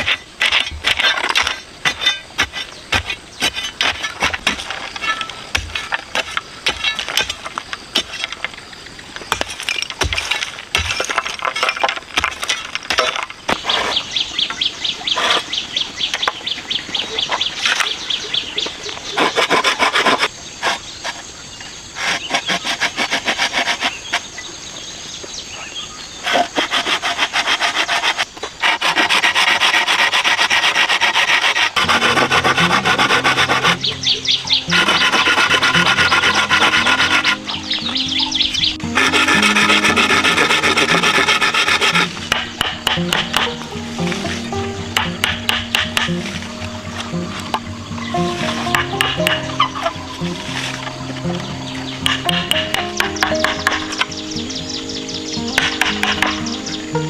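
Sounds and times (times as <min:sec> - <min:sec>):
hand tool rasping wood: 0:00.0 - 0:15.6, 0:18.9 - 0:21.3, 0:21.9 - 0:24.4, 0:26.2 - 0:57.0.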